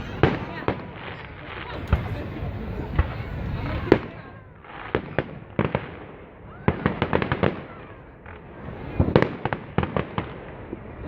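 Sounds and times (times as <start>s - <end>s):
continuous crackling rumble: 0.0s - 11.0s
fireworks cracking and popping: 0.0s - 11.0s.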